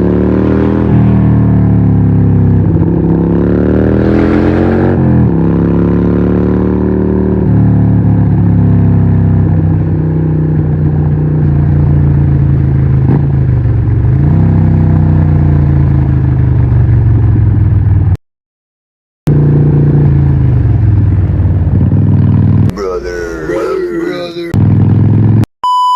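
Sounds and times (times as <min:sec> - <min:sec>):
motorcycle engine at low revs: 0:00.0 - 0:18.2, 0:19.3 - 0:22.7, 0:24.6 - 0:25.5.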